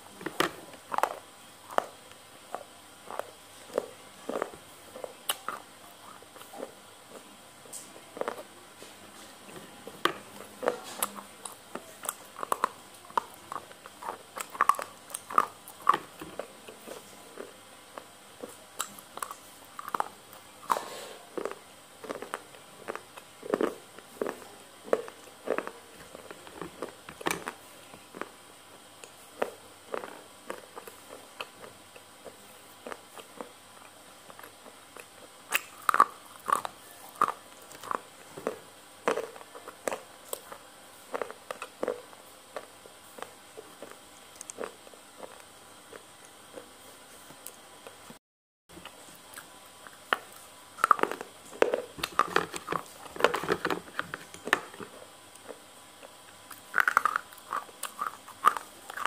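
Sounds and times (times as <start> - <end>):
close-miked chewing noodles: 0.0 - 59.0.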